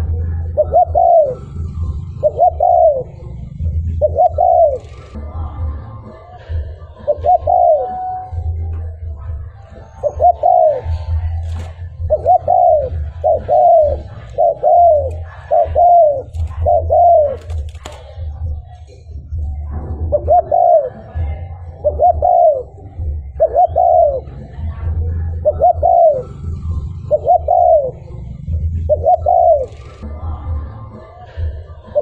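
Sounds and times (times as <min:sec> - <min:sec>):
dove cooing: 0:00.0 - 0:32.0.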